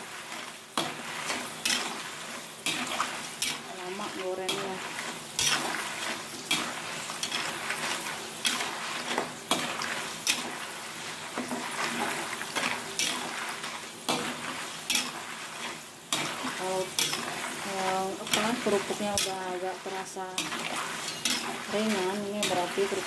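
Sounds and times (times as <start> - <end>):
metal spatula scraping wok: 0.0 - 23.0
oil sizzling in wok: 0.0 - 23.0.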